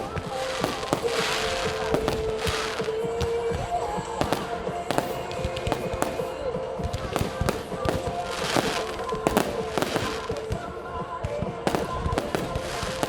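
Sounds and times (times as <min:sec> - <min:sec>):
fireworks bangs and pops: 0:00.0 - 0:13.0
fireworks crackling hiss: 0:00.0 - 0:13.0.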